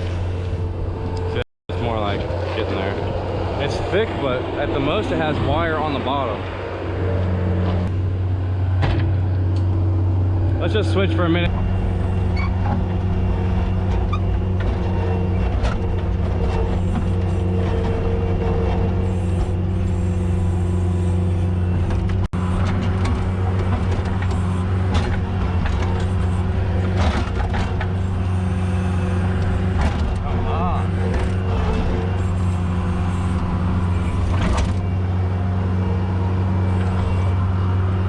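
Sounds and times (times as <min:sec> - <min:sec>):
skid steer engine running: 0:00.0 - 0:38.0.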